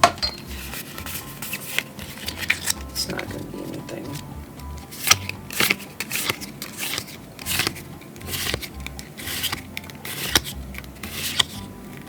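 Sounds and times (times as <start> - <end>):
trading cards rustling: 0.0 - 12.0.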